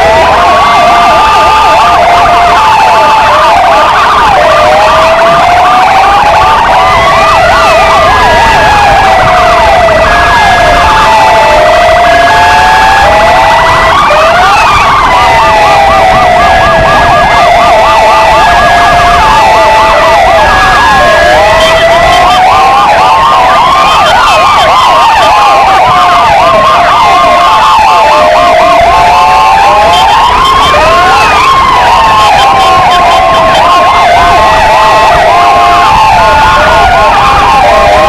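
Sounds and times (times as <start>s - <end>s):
fast siren yelp: 0.0s - 38.0s
two-tone high-low siren: 0.0s - 38.0s
wailing sirens: 0.0s - 38.0s.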